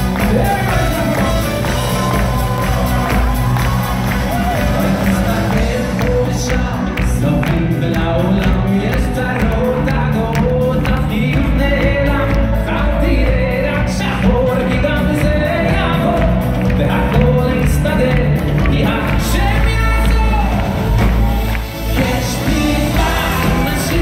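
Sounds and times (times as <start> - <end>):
amplified live band: 0.0 - 24.0
man singing lead: 0.0 - 24.0.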